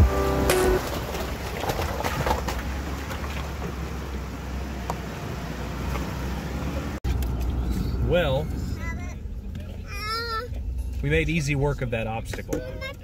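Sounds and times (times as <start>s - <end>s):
pickup engine rumble: 0.0s - 13.0s.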